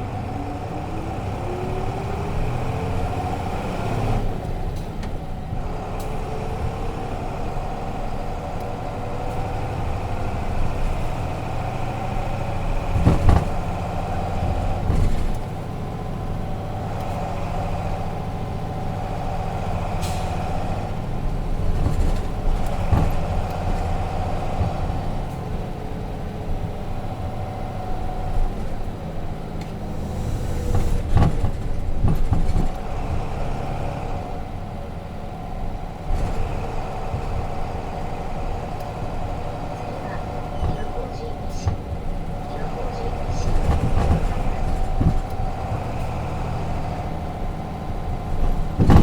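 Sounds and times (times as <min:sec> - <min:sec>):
bus diesel engine running: 0:00.0 - 0:49.0.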